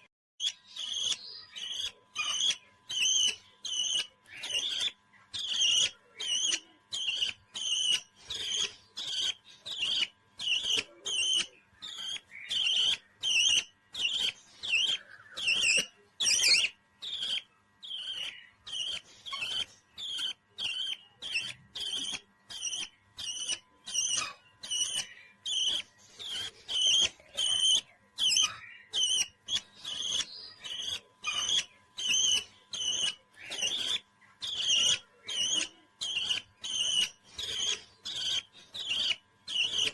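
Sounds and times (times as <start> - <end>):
parrot chirping and whistling: 0.4 - 39.9.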